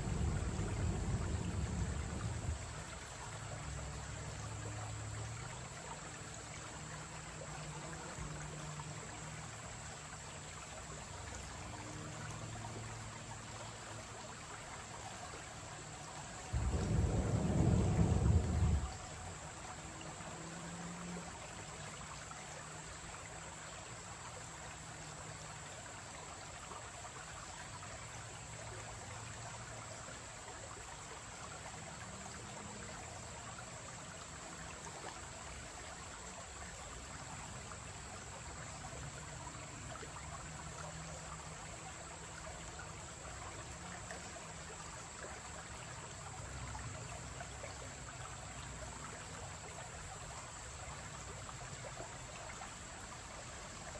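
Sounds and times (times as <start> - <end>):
creek babbling over rocks: 0.0 - 53.9.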